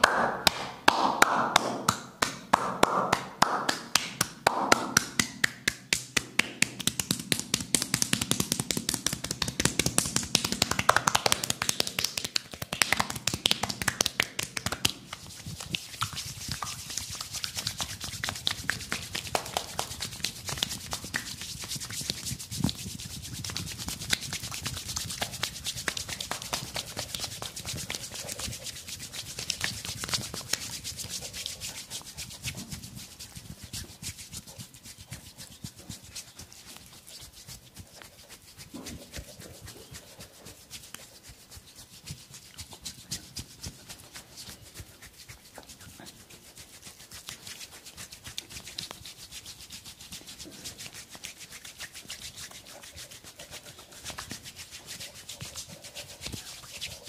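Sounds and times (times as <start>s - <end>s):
hands scratching through hair: 3.1s - 57.0s.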